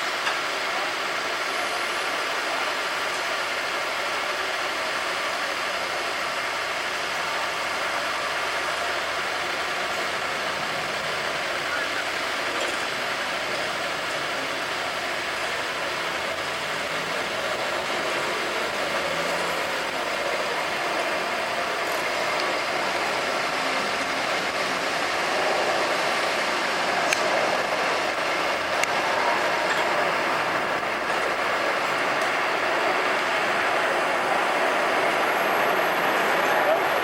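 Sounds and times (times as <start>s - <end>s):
street traffic passing: 0.0s - 37.0s.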